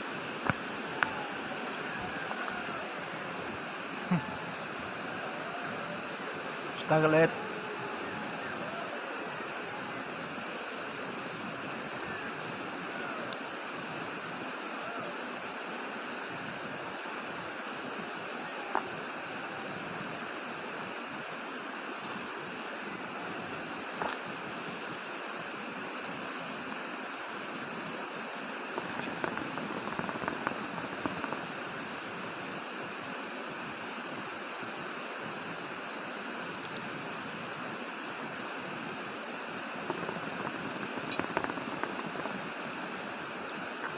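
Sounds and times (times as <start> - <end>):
steady rushing noise: 0.0 - 43.9.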